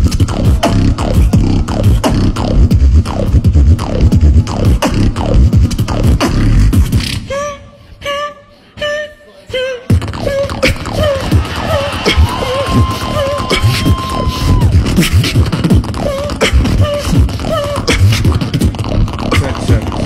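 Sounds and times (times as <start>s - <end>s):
beatboxing through a microphone: 0.0s - 20.0s
wavering pitched vocal notes: 0.0s - 20.0s.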